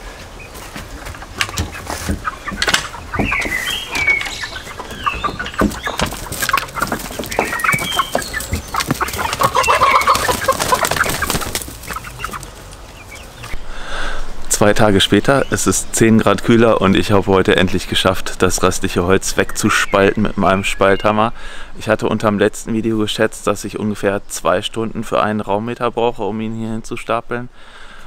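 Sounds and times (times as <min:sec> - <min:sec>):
chickens clucking: 0:00.0 - 0:26.8.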